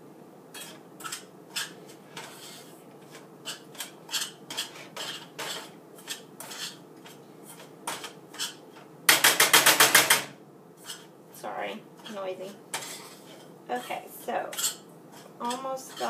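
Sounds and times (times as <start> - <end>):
metal spoon scraping a skillet: 0.5 - 11.1, 12.0 - 16.0.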